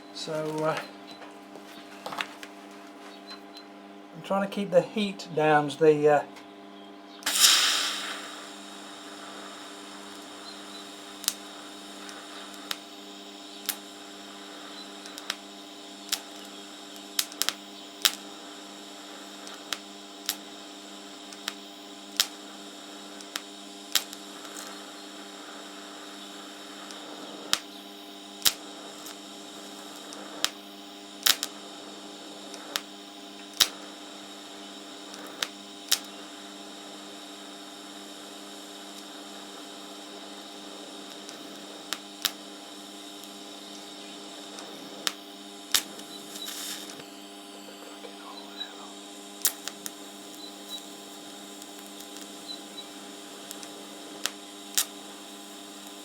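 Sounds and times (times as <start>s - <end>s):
welding arc hissing and buzzing: 0.0s - 0.8s, 7.2s - 56.0s.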